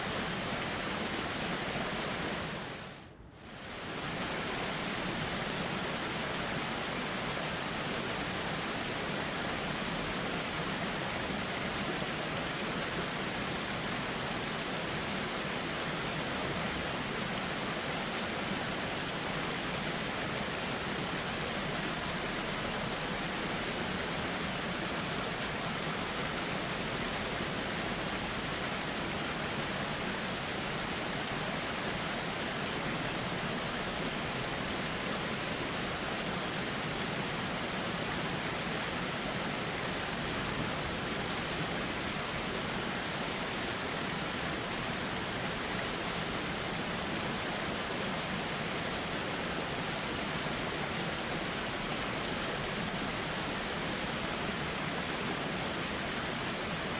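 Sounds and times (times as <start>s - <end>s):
river rushing: 0.0s - 56.9s.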